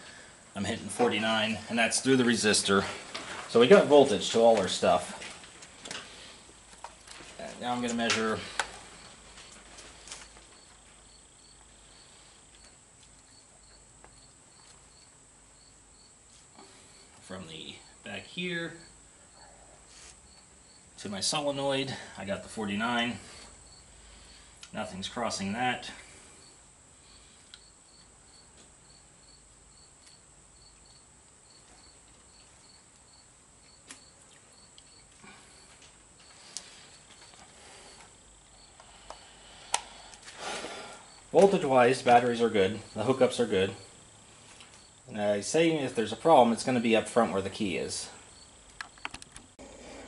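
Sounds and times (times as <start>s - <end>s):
insect chirping: 0.0s - 50.0s
steady high hiss: 0.0s - 50.0s.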